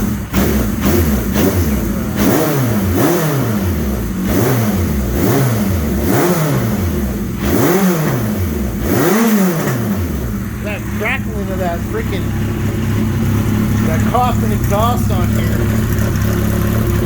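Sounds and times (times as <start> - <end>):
exhaust crackling: 0.0 - 17.0
motorcycle engine revving: 0.0 - 17.0.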